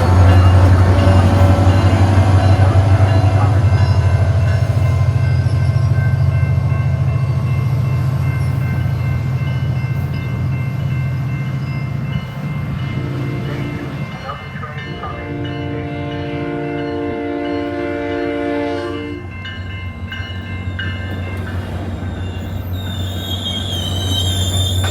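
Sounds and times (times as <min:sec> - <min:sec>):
diesel train engine rumble: 0:00.0 - 0:24.9.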